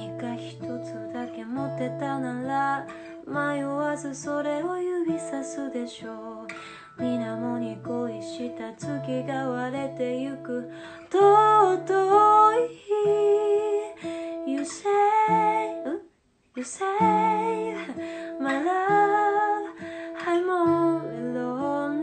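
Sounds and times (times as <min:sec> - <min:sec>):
plucked guitar: 0:00.0 - 0:22.0
woman singing a ballad: 0:00.0 - 0:22.0.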